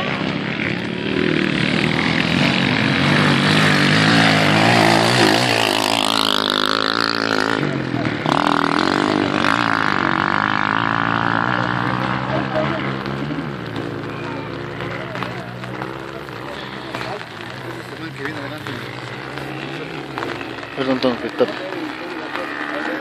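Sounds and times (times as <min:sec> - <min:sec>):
racing motorcycle engines revving: 0:00.0 - 0:23.0.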